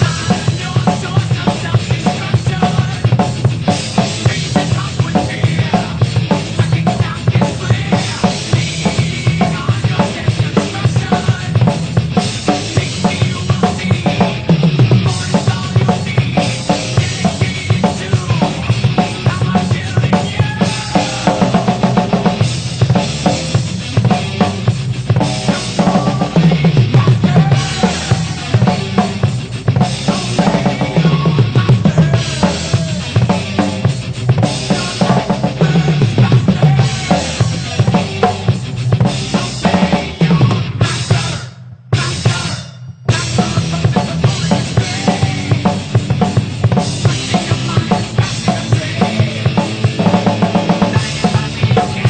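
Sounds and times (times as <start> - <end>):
drum kit played hard and fast: 0.0 - 52.0
heavy metal recording: 0.0 - 52.0.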